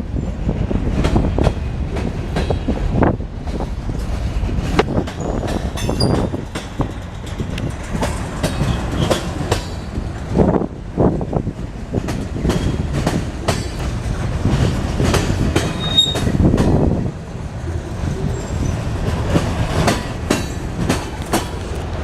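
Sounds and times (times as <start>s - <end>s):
freight train rumbling past: 0.0s - 22.0s
wheels clacking over rail joints: 0.2s - 22.0s.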